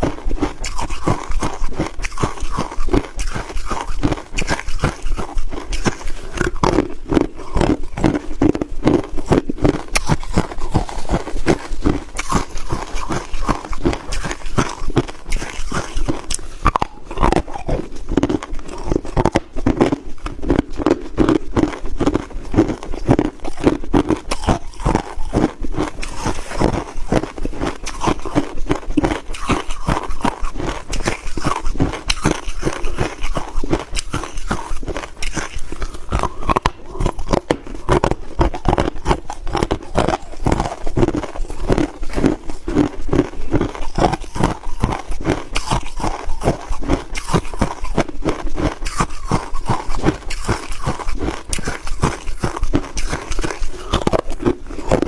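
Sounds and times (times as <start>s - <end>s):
crushed ice being chewed: 0.0s - 55.0s.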